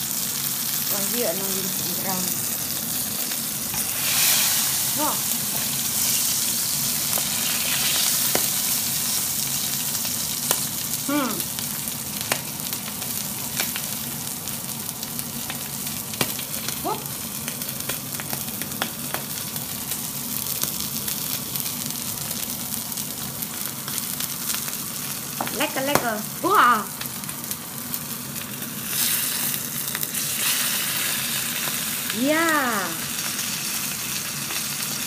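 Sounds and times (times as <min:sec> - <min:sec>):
steak sizzling in a pan: 0:00.0 - 0:35.0.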